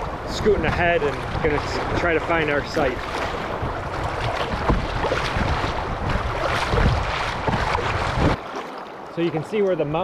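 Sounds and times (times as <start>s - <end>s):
wind buffeting microphone: 0.0s - 8.4s
water rushing and splashing: 0.0s - 10.0s.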